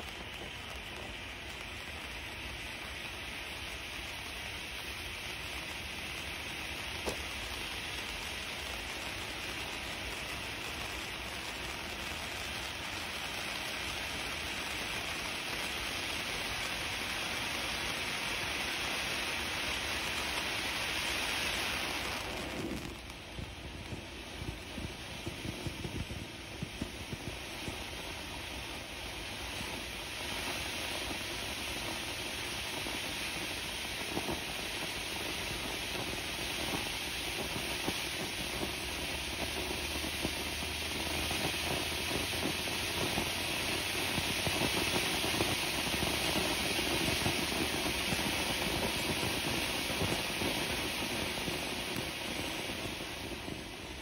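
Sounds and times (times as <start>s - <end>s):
firework crackles: 0.0s - 54.0s
firework fountain hissing sparks: 0.0s - 54.0s.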